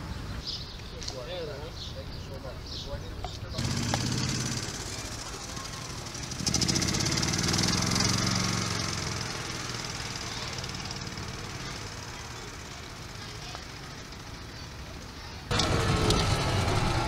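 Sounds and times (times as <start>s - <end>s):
golf cart engine running: 2.4s - 17.0s.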